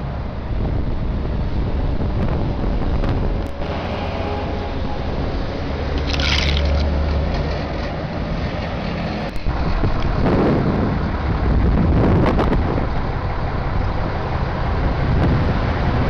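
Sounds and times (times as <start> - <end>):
road noise: 0.0 - 16.0
truck engine: 0.0 - 16.0
wind buffeting microphone: 0.0 - 16.0.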